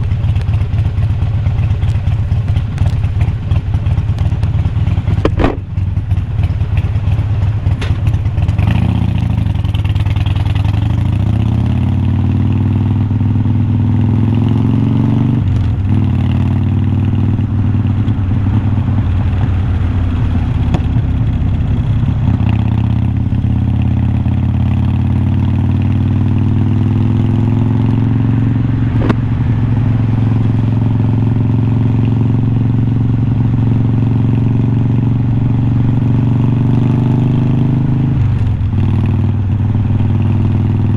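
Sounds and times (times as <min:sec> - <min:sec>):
loud motorcycle engine: 0:00.0 - 0:40.9.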